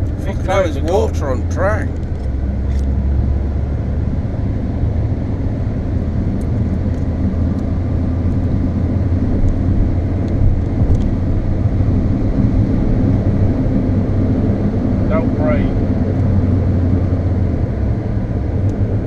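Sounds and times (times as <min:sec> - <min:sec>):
car cabin engine and tyre drone: 0:00.0 - 0:19.0.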